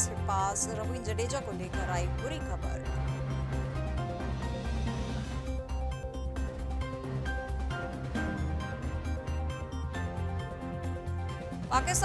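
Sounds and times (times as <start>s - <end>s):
background music with pulsing bass: 0.0s - 12.0s.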